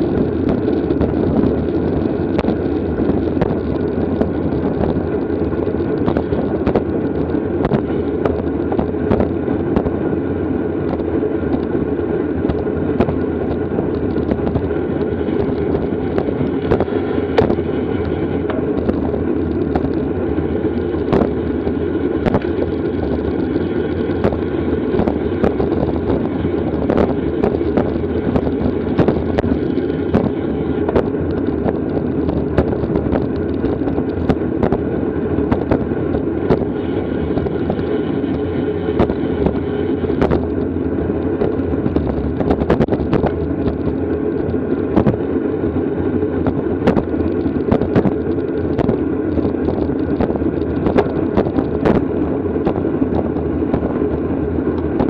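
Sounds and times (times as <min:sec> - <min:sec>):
bicycle tyre rumble on road: 0:00.0 - 0:55.0
wind rushing over microphone: 0:00.0 - 0:55.0.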